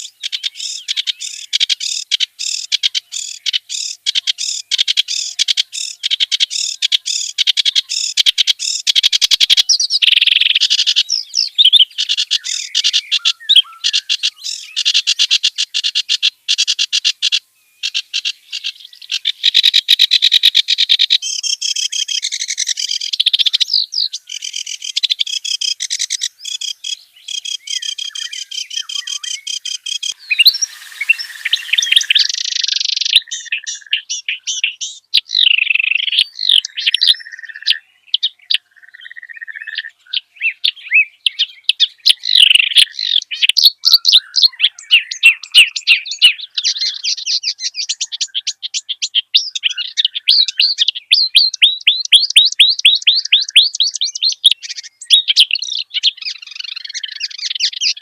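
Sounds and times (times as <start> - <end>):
reed warbler singing: 0.0 - 58.0.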